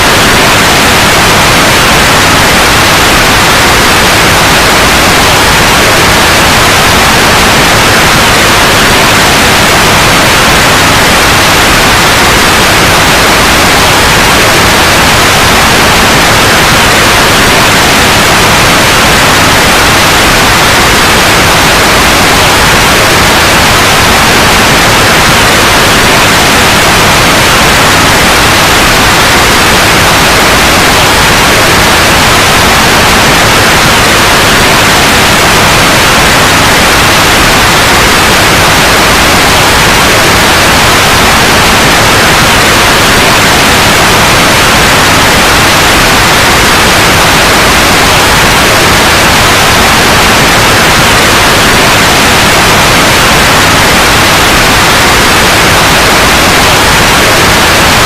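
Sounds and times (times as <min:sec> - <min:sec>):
loud white noise hiss: 0:00.0 - 0:58.0.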